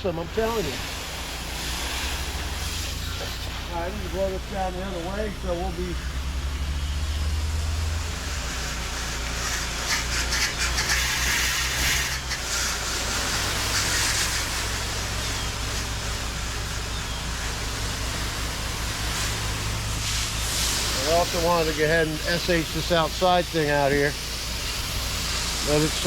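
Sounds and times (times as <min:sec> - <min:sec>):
high-pressure water spray hissing: 0:00.0 - 0:26.0
pressure washer engine running: 0:00.0 - 0:26.0.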